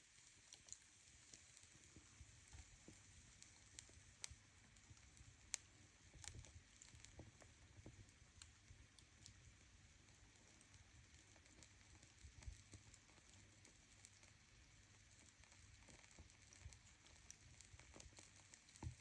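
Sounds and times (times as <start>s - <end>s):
fire crackling faintly: 0.0s - 19.0s.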